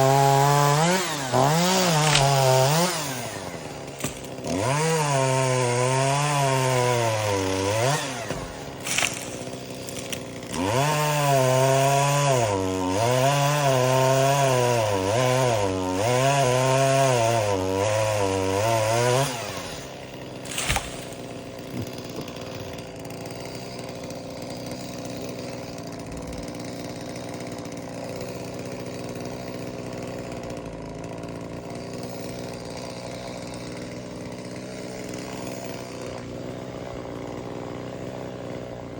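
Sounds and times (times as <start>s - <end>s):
chainsaw idling: 0.0s - 38.9s
chainsaw revving and cutting: 0.0s - 38.9s.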